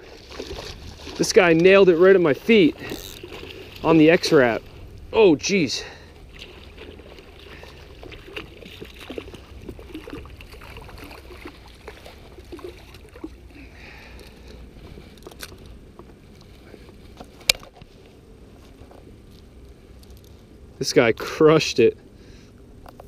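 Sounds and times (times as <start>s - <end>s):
water sloshing and splashing: 0.0s - 20.4s.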